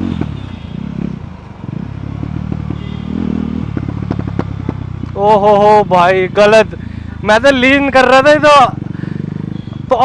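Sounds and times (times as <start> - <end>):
motorcycle engine under throttle: 0.0 - 10.0.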